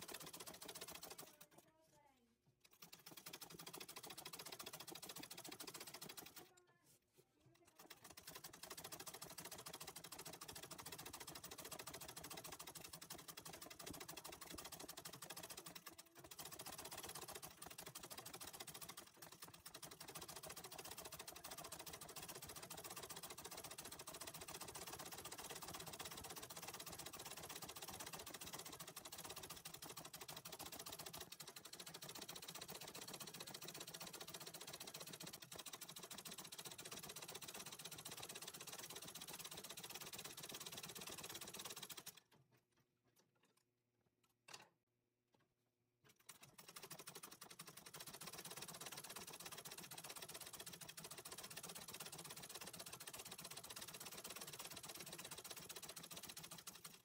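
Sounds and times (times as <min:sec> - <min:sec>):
sewing machine stitching: 0:00.0 - 0:01.9, 0:02.5 - 0:06.7, 0:07.3 - 0:42.6, 0:46.1 - 0:57.0.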